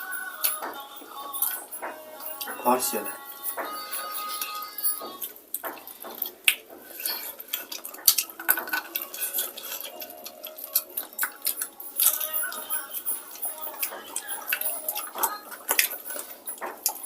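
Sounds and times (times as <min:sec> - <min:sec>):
utensils clinking on dishes: 0:00.0 - 0:17.0.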